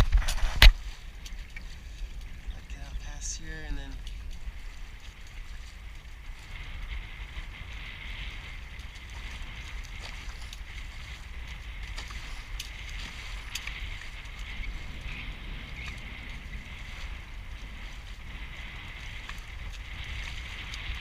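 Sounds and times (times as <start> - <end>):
water rushing past hulls: 0.0 - 21.0
wind buffeting the microphone: 0.0 - 21.0.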